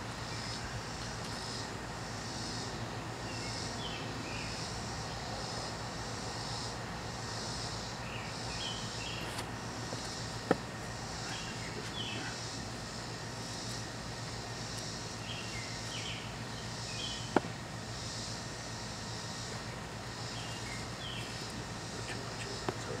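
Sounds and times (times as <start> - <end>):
high insect chorus: 0.0 - 23.0
steady low hum: 0.0 - 23.0.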